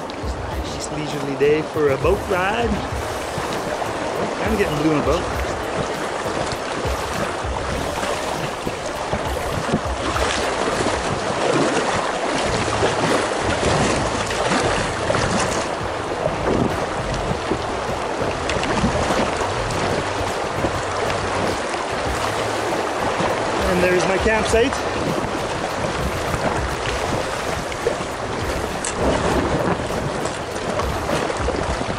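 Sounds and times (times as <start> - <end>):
paddle splash: 0.0 - 31.9
river current rushing: 0.0 - 31.9
wind buffeting microphone: 0.0 - 31.9.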